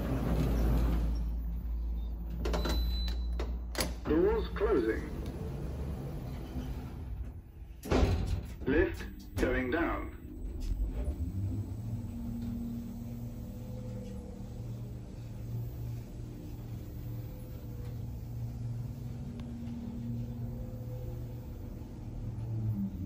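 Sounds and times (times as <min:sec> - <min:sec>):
lift hum and rumble: 0:00.0 - 0:23.0
low steady tones: 0:04.1 - 0:23.0.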